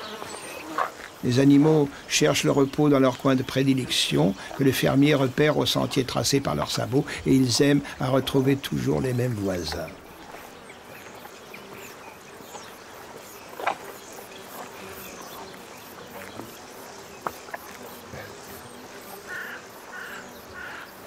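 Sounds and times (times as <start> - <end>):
flies buzzing: 0.0 - 21.0.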